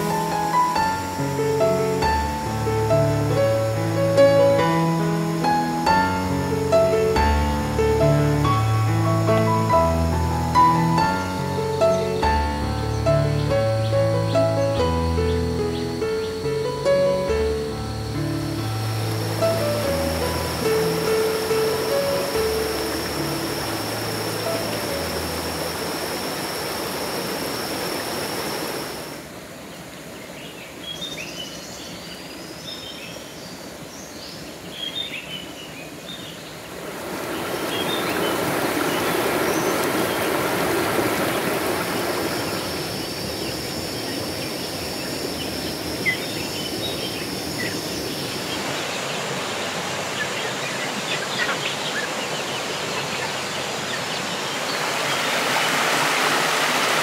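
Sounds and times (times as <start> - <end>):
rushing flowing water: 0.0 - 30.8, 35.4 - 57.0
birds chirping: 5.4 - 29.2, 30.0 - 57.0.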